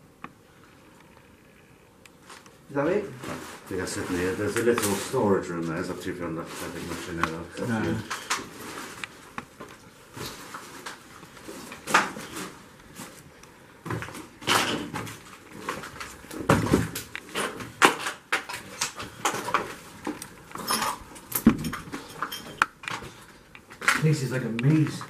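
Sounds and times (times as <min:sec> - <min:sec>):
people moving among debris: 0:02.2 - 0:25.0.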